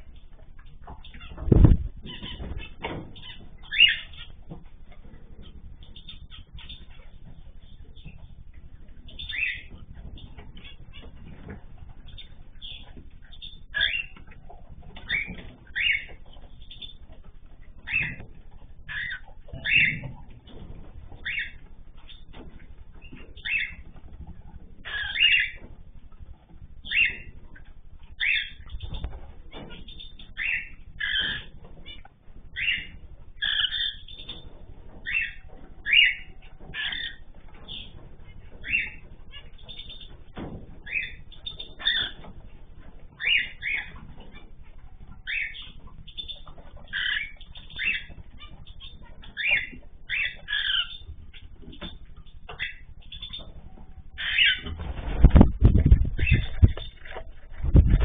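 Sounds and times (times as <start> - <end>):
cockatiels calling: 0.0 - 58.0.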